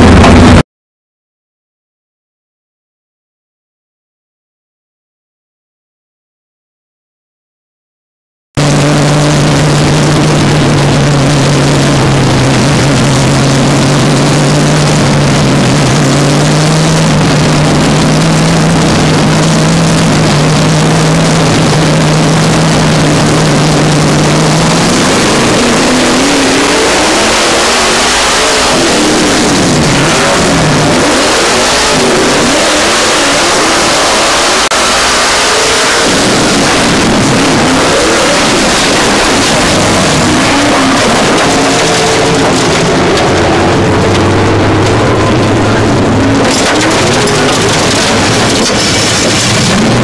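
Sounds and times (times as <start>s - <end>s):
noisy rush: 0.0s - 0.6s, 8.6s - 50.0s
race car engine revving: 0.0s - 0.6s, 8.6s - 50.0s.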